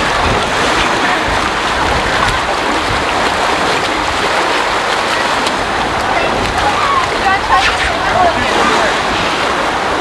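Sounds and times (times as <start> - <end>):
water rushing down slide: 0.0 - 10.0.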